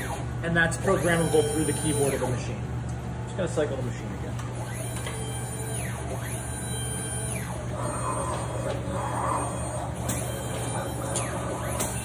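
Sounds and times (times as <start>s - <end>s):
printer motors whining: 0.0s - 2.7s, 4.2s - 12.0s
steady low hum: 0.0s - 12.0s.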